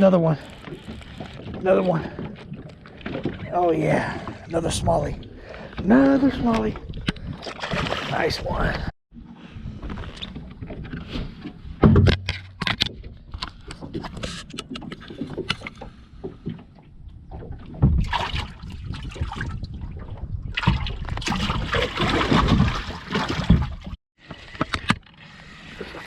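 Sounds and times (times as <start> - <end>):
water sloshing around boat: 0.0 - 26.0.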